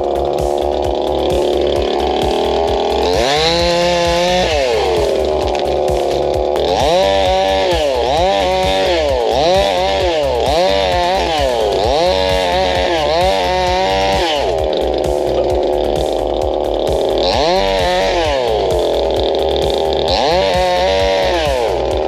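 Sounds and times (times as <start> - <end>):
chainsaw cutting a tree: 0.0 - 22.0.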